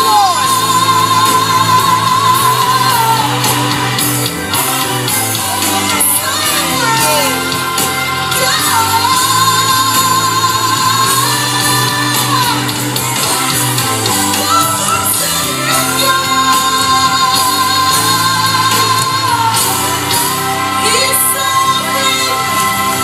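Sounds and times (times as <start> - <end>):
band accompaniment: 0.0 - 23.0.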